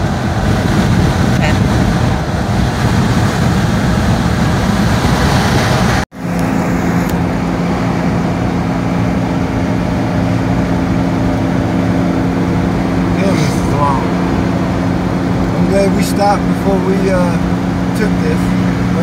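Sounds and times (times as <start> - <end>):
road and engine noise inside vehicle: 0.0 - 19.0.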